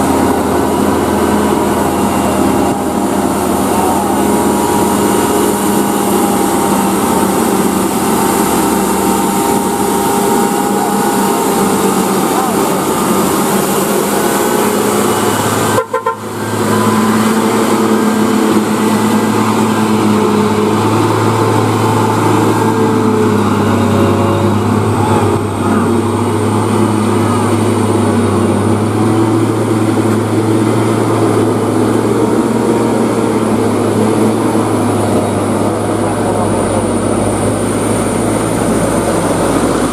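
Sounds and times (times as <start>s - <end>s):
truck engine droning under load: 0.0s - 39.9s.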